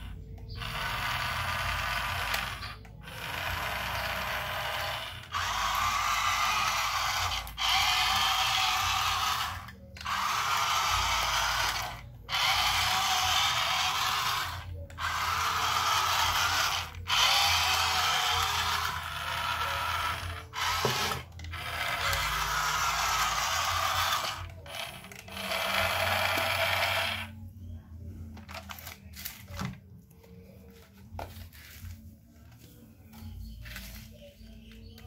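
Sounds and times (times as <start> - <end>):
toy truck electric motor whirring: 0.0 - 27.4, 28.4 - 29.8, 33.1 - 35.0.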